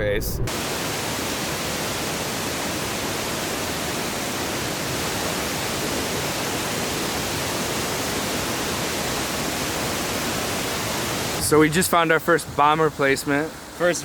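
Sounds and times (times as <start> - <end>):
waterfall roaring: 0.5 - 14.0.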